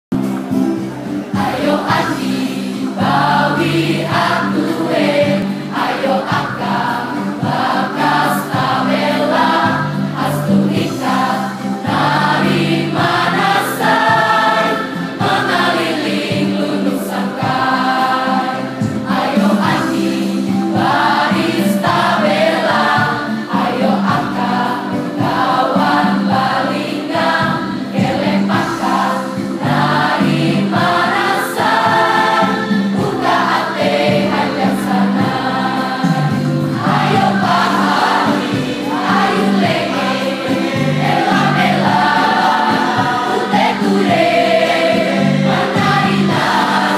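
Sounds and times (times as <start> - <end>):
instrumental accompaniment: 0.1 - 46.9
choir singing in parts: 0.2 - 46.9.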